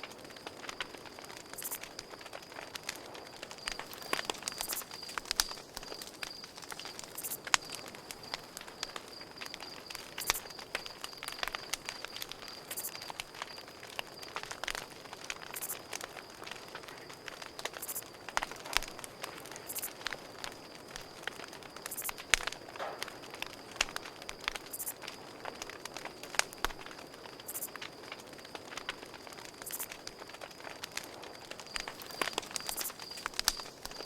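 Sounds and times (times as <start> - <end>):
campfire crackling: 0.0 - 34.0
cricket trill: 0.0 - 34.0.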